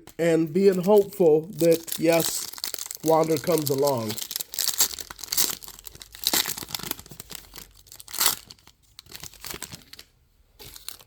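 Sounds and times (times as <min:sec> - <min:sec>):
foil wrapper crinkling and tearing: 0:00.6 - 0:11.0.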